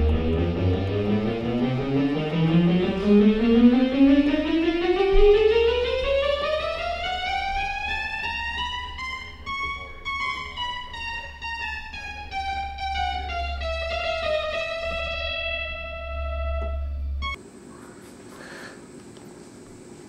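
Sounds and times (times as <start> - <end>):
buzzy synthesizer tone sliding: 0.0 - 17.4
low drone: 0.0 - 17.4.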